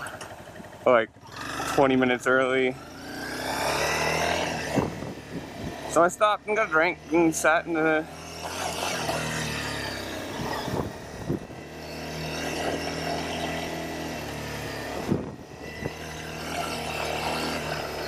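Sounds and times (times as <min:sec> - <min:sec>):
motorcycle engine at low speed: 0:00.0 - 0:18.0.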